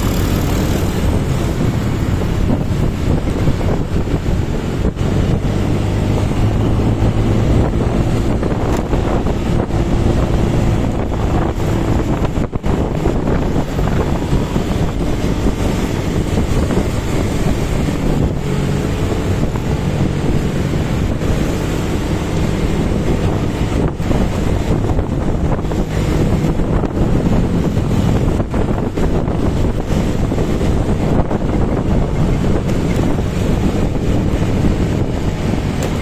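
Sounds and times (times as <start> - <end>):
motorcycle engine hum: 0.0 - 36.0
road noise: 0.0 - 36.0
wind buffeting microphone: 0.0 - 36.0.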